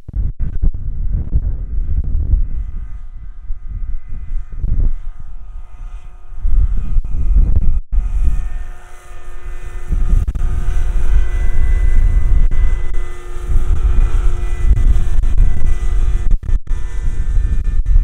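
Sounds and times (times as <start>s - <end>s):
electric motor and rotor whine: 0.0s - 18.0s
low rumble on microphone: 0.0s - 18.0s.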